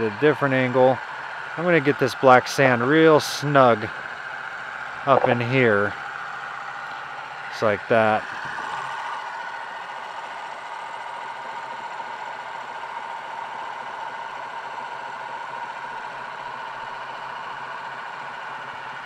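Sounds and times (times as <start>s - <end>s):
small electric motor whining hum: 0.0s - 19.0s.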